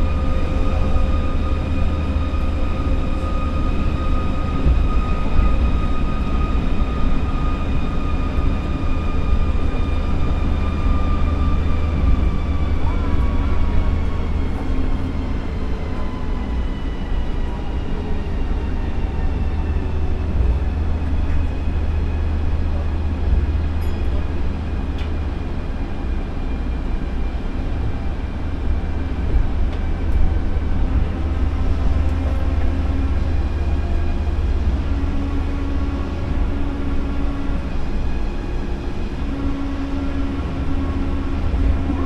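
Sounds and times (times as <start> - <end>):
monorail train rumbling: 0.0 - 42.0.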